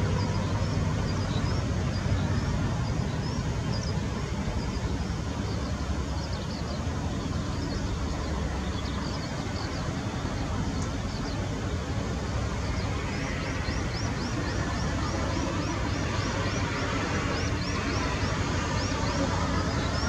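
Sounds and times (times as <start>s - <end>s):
helicopter hovering: 0.0s - 20.0s.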